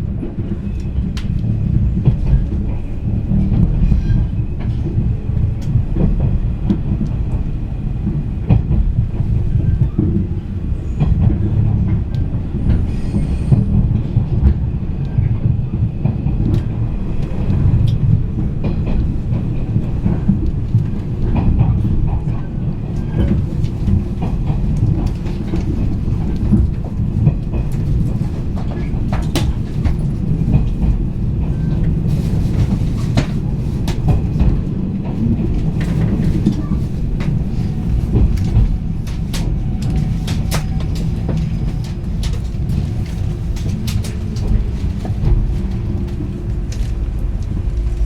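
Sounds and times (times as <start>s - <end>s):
train interior rumble: 0.0s - 48.0s.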